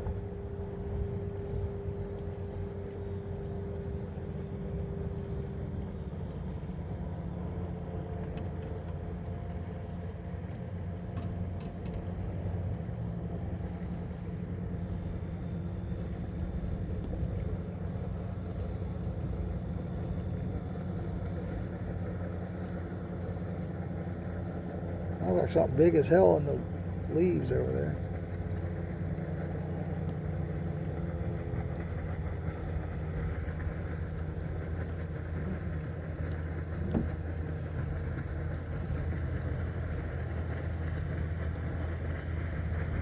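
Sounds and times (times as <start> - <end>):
motor rumble and hum: 0.0 - 43.0.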